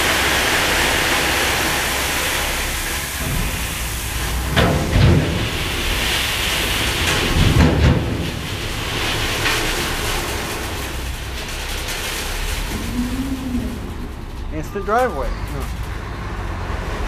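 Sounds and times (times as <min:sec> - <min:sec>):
gravel sliding and pouring: 0:00.0 - 0:15.9
diesel engine running: 0:00.0 - 0:17.0.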